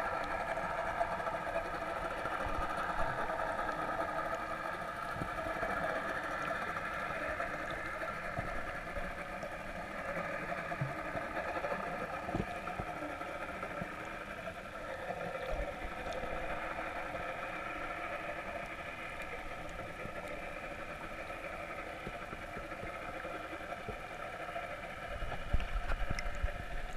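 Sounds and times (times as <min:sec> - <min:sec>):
boat engine heard underwater: 0:00.0 - 0:26.9.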